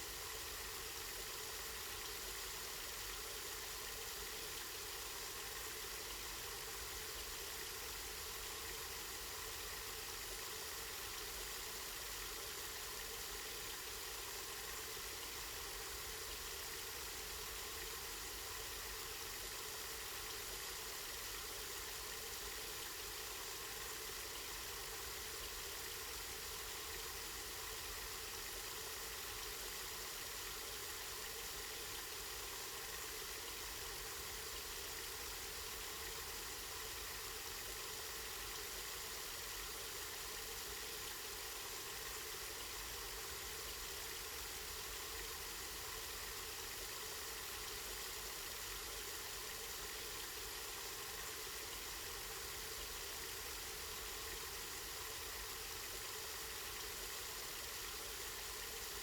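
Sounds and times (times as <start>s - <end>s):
spring water running and splashing: 11.6s - 59.0s.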